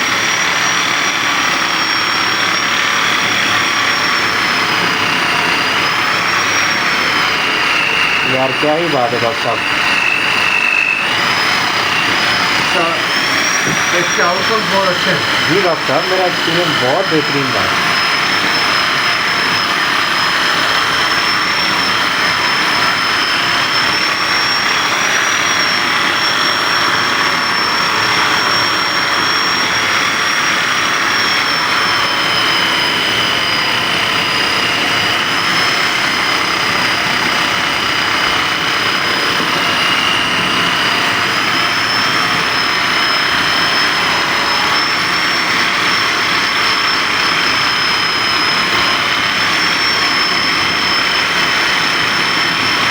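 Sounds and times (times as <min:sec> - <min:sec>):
small electric motor whining: 0:00.0 - 0:52.9.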